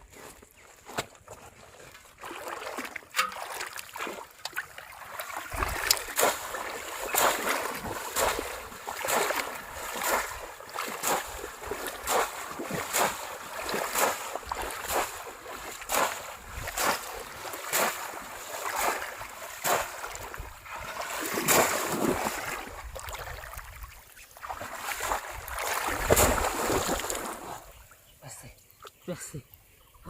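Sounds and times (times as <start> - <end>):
shallow water splashing: 1.6 - 27.9.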